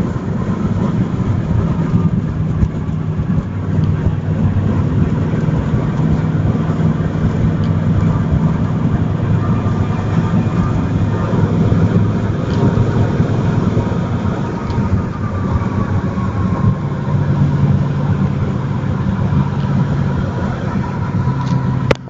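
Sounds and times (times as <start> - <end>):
car cabin engine and road drone: 0.0 - 22.0.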